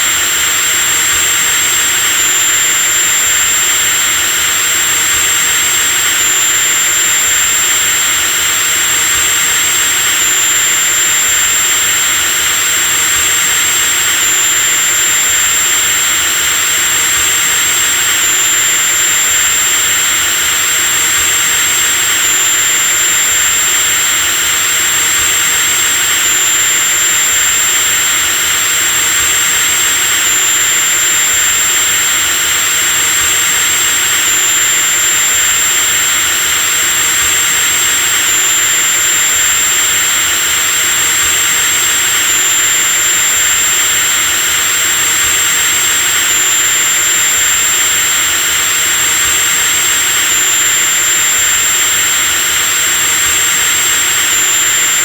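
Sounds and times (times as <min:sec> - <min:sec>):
electric drill whining: 0:00.0 - 0:55.0.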